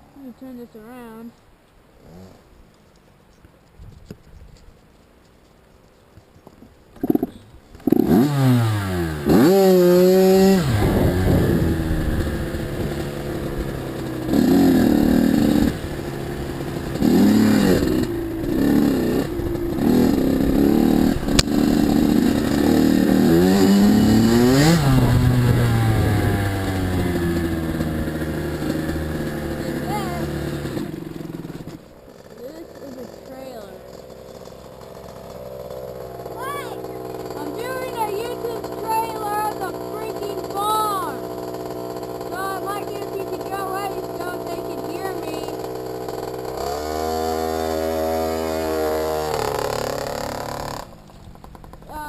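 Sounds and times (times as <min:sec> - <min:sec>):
dirt bike engine revving: 0:07.0 - 0:52.0.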